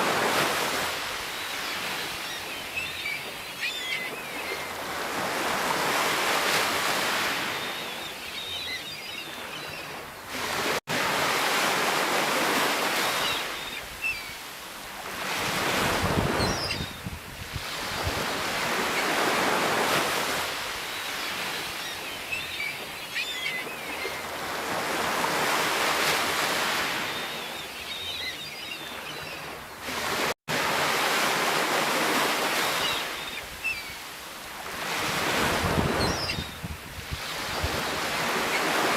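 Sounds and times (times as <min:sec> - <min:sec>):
sea waves breaking ashore: 0:00.0 - 0:08.5, 0:09.2 - 0:38.9.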